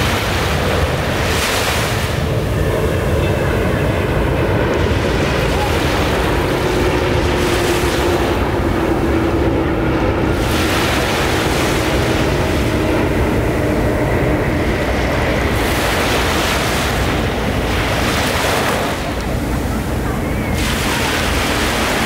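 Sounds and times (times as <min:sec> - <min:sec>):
surf breaking on beach: 0:00.0 - 0:02.6, 0:04.7 - 0:22.0
wind buffeting microphone: 0:00.0 - 0:22.0.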